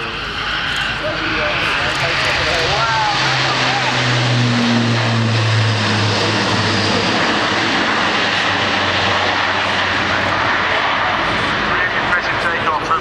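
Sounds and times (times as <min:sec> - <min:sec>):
low propeller hum: 0:00.0 - 0:13.0
turboprop engines in flight: 0:00.0 - 0:13.0.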